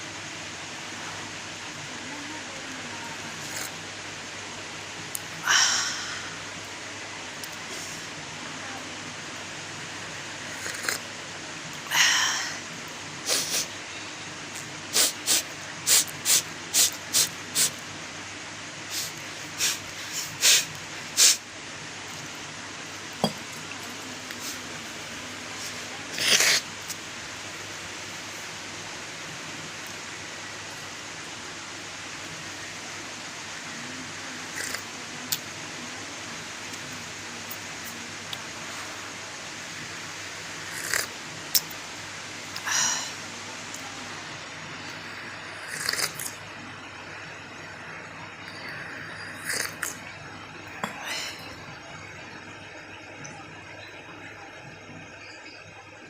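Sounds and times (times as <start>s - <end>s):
steady hiss: 0.0s - 53.1s.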